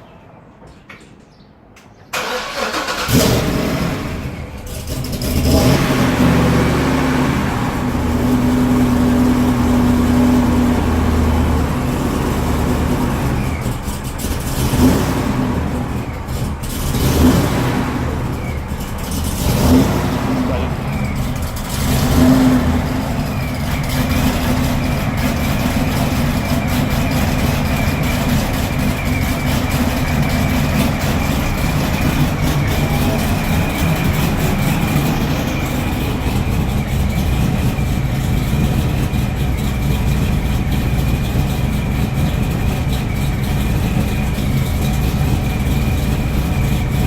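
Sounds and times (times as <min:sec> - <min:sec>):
car engine idling: 0:02.2 - 0:47.0.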